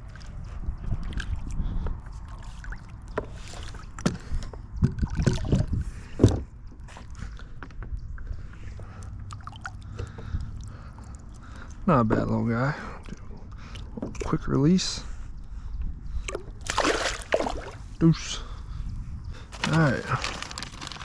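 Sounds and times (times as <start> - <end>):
steady low rumble: 3.9 - 21.0.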